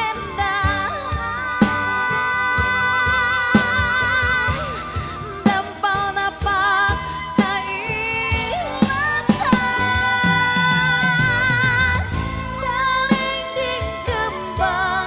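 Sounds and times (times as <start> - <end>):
pop song with drum beat: 0.0 - 15.0.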